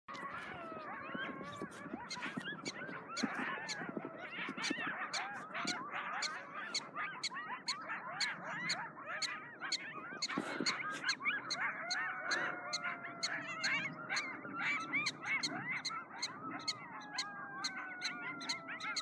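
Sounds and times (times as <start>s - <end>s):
coyotes howling and yipping: 0.0s - 19.0s
prairie dog alarm chirps: 0.1s - 19.0s.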